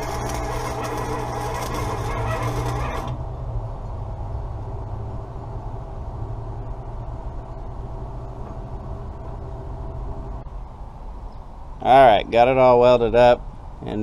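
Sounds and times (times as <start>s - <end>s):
low machine hum: 0.0s - 12.2s.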